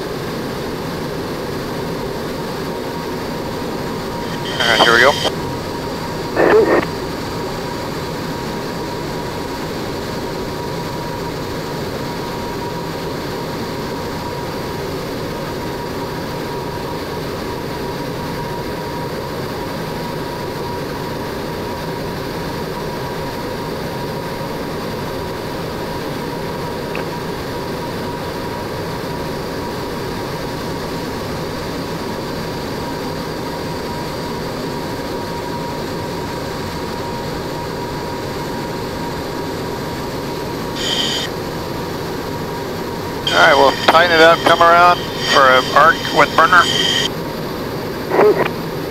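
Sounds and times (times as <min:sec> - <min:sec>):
jet engine and airflow in cockpit: 0:00.0 - 0:48.9.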